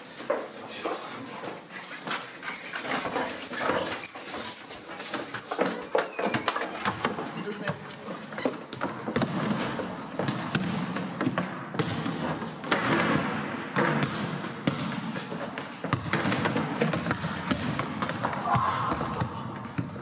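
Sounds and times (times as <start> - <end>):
basketballs bouncing on wooden floor: 2.9 - 20.0.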